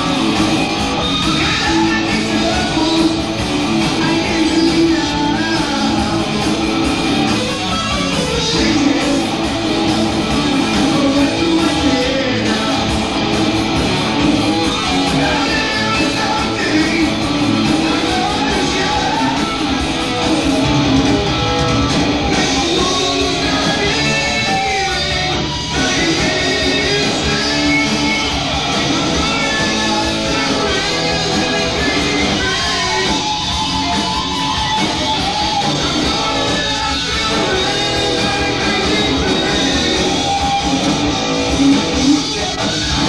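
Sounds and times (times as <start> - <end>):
heavy metal band playing live: 0.0 - 43.0.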